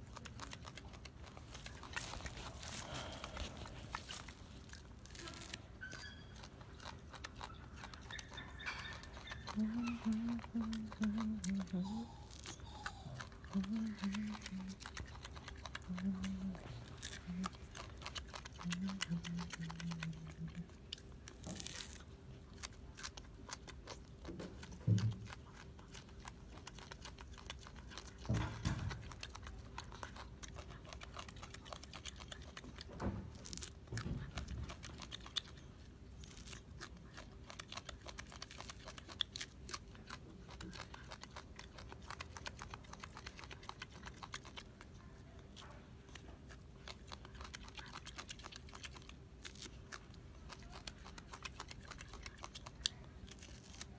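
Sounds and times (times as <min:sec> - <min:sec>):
monkey crunching and chewing: 0:00.0 - 0:53.9.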